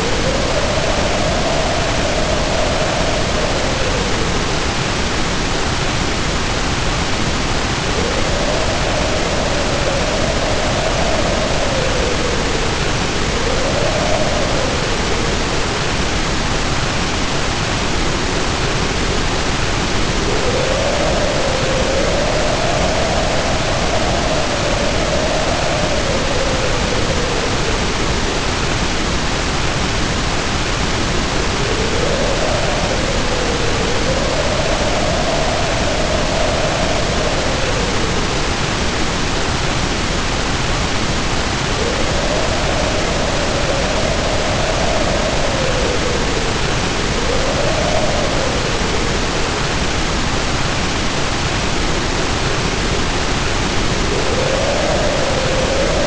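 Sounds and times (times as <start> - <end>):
heavy rain hiss: 0.0 - 56.0
wind howling: 0.0 - 56.0.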